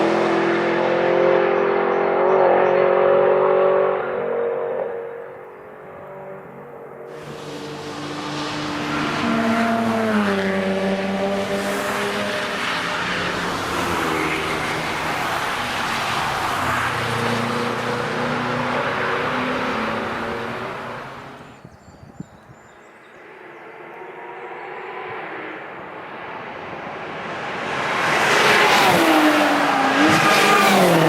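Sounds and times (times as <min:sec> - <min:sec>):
race cars passing at high speed: 0:00.0 - 0:21.7, 0:22.6 - 0:31.0.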